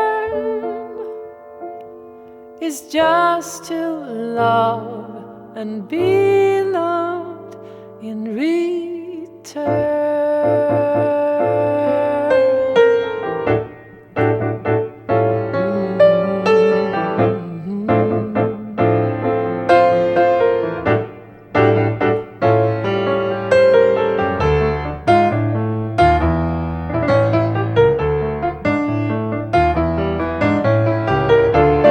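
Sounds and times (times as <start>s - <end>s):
grand piano playing: 0.0s - 31.9s.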